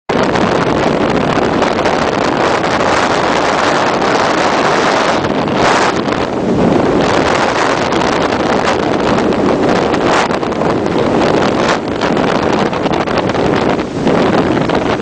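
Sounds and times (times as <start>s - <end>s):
heavy seas breaking: 0.1s - 15.0s
storm-force wind on microphone: 0.1s - 15.0s.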